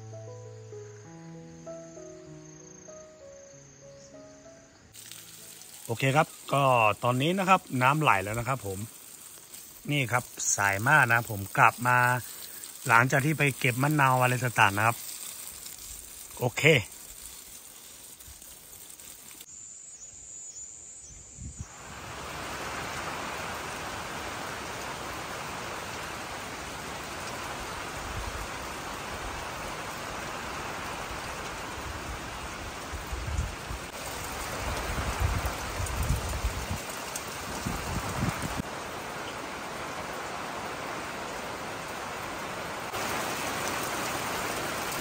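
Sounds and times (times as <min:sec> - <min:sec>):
steady rain: 0:04.9 - 0:19.5, 0:21.7 - 0:45.0
water pouring from a hose: 0:05.0 - 0:19.5, 0:21.7 - 0:45.0.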